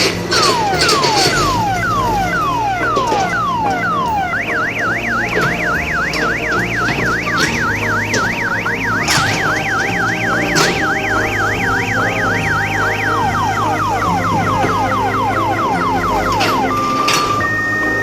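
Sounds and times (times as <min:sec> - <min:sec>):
electronic siren whooping and warbling: 0:00.0 - 0:18.0
steady low drone: 0:00.0 - 0:18.0.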